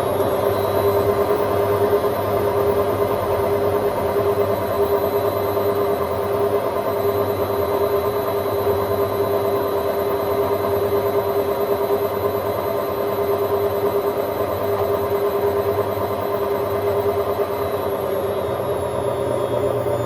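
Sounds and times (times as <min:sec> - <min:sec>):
washing machine spinning: 0:00.0 - 0:20.0.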